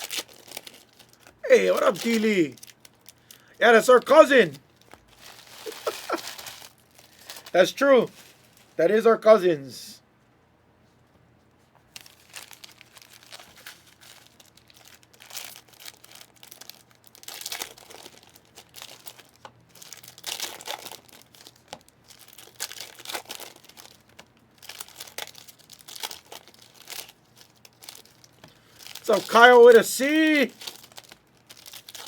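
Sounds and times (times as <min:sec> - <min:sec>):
foil wrappers tearing and crinkling: 0:00.0 - 0:04.2, 0:04.8 - 0:08.8, 0:11.9 - 0:32.0.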